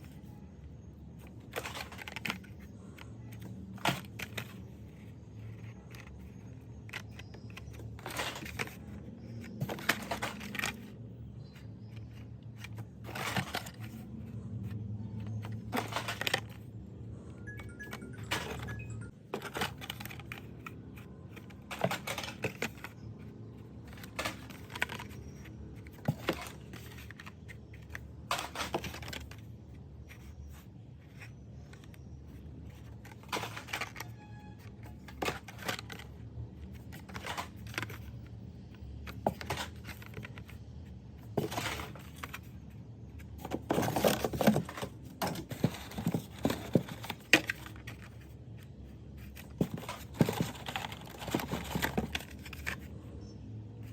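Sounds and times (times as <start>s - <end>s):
toy cars in blister packs handled: 1.0s - 16.7s, 18.0s - 53.2s.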